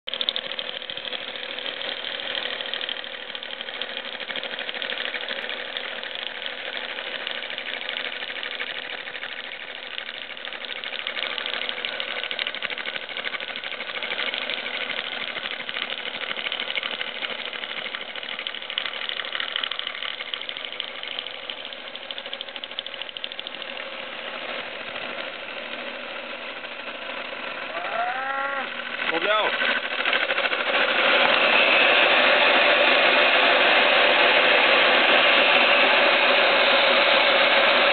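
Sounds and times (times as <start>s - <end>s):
steady machine whine: 0.1s - 37.9s.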